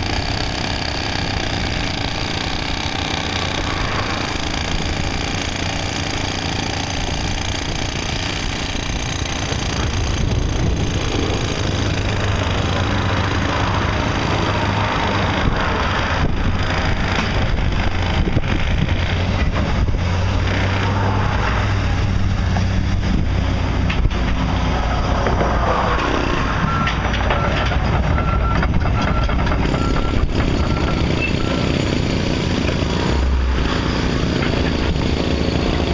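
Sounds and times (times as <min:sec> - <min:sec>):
construction equipment engine running: 0:00.0 - 0:35.9.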